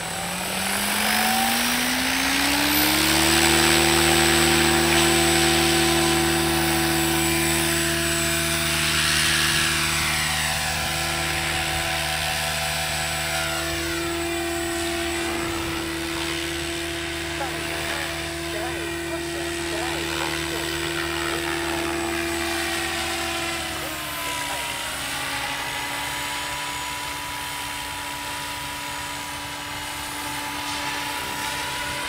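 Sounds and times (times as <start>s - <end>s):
rc helicopter rotor whine: 0.0s - 32.0s.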